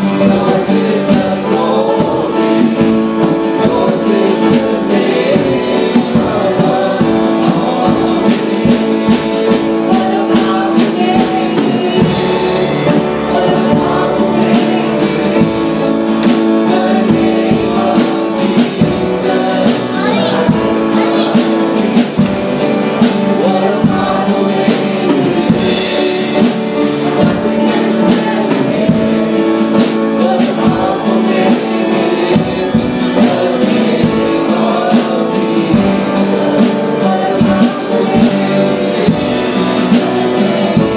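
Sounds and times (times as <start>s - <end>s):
worship band with singing: 0.0s - 40.9s.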